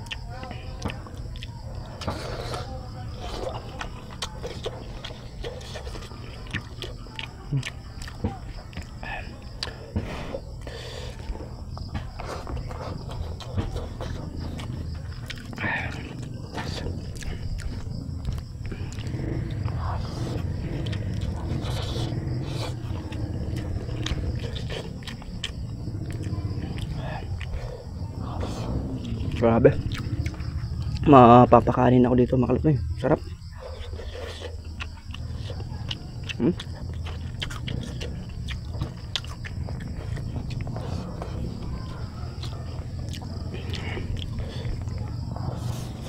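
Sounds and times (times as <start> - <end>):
chewing and lip-smacking: 0.0 - 46.0
low background rumble: 0.0 - 46.0.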